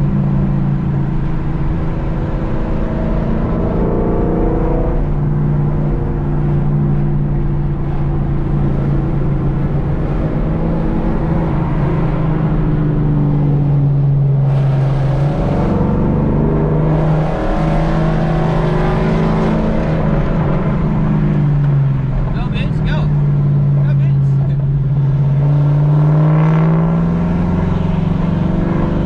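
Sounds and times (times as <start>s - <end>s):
car engine at highway speed: 0.0s - 29.0s.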